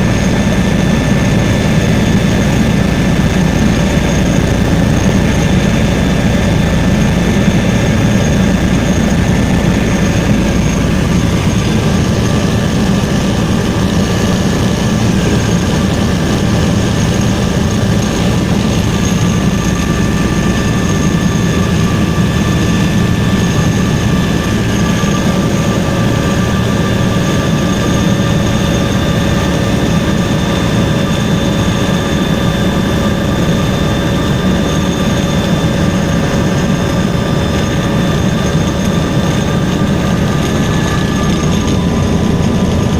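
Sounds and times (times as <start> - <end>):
helicopter engine and rotor drone: 0.0 - 42.9
high whine: 0.0 - 42.9.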